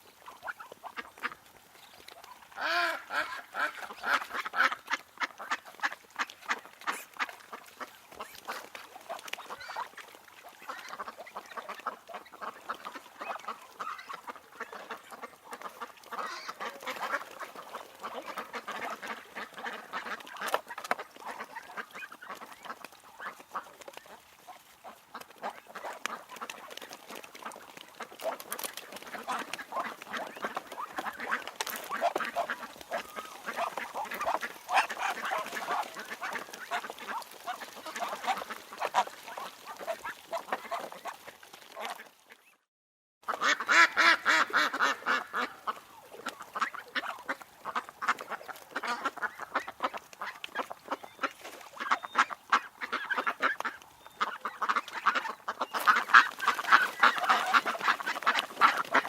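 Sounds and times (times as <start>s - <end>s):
ducks quacking: 0.1s - 42.6s, 43.2s - 59.0s.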